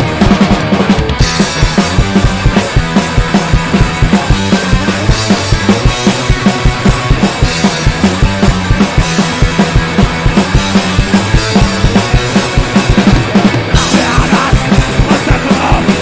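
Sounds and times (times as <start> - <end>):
bass guitar: 0.0 - 16.0
drum kit beat: 0.0 - 16.0
electric guitar: 0.0 - 16.0.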